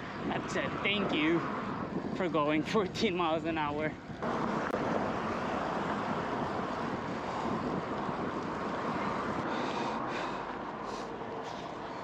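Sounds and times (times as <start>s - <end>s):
wind noise on microphone: 0.0s - 10.4s.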